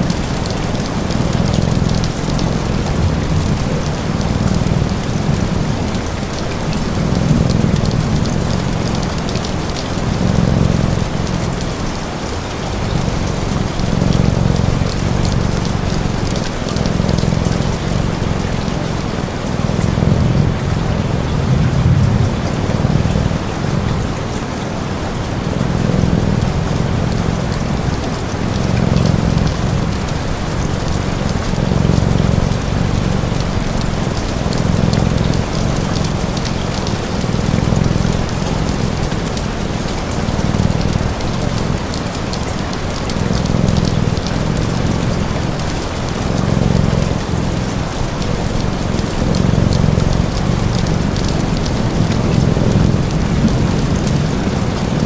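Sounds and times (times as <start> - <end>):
heavy rain: 0.0 - 55.0
cat purring: 0.1 - 55.0.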